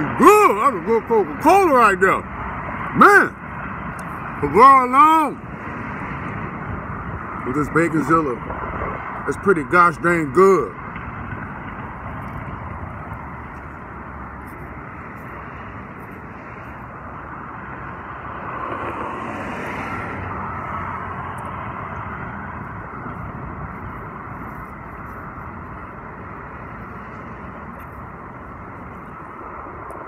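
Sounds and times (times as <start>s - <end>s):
car passing: 0.0s - 30.0s
road traffic: 0.0s - 30.0s.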